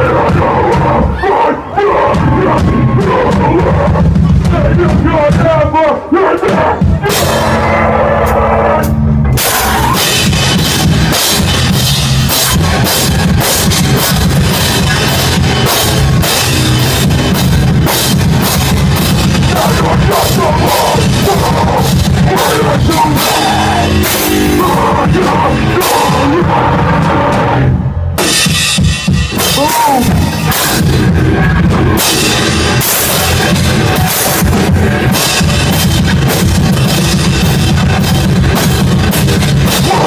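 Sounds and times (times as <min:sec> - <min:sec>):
heavy band playing live: 0:00.0 - 0:40.0.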